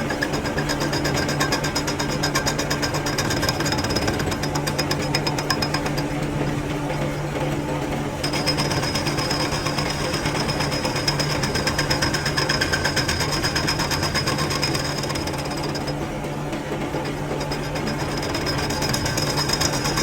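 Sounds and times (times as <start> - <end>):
power tool hammering: 0.0 - 20.0.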